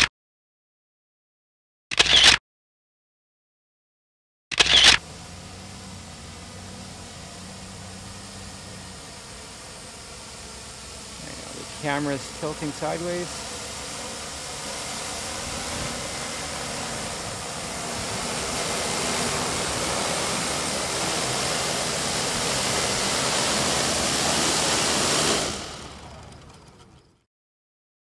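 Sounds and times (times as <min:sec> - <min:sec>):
drone rotors whirring: 0:04.5 - 0:27.2.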